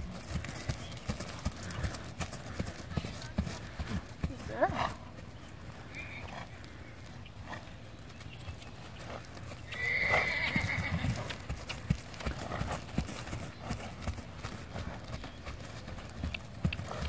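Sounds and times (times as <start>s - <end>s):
horse hooves on grass: 0.0s - 17.0s.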